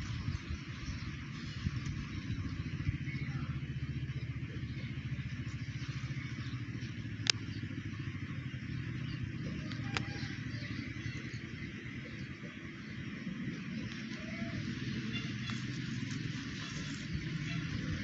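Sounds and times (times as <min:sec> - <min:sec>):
engine running with fast pulse: 0:00.0 - 0:18.0.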